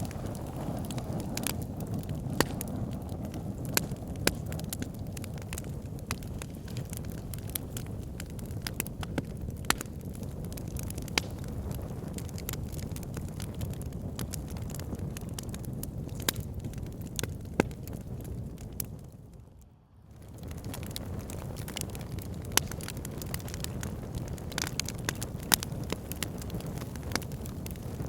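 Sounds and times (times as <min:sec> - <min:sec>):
fire crackling and popping: 0:00.0 - 0:28.0
fire pit flames rushing: 0:00.0 - 0:28.0.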